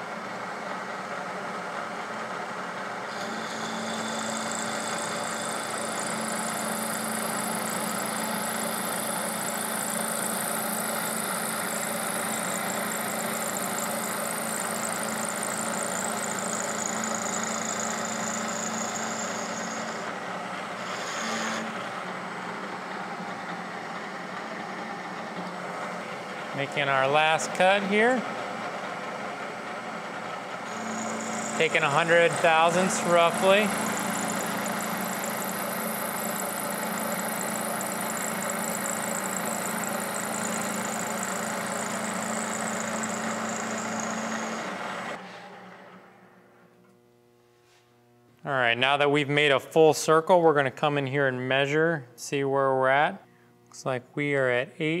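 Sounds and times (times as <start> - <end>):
milling machine spindle running: 0.1 - 46.1.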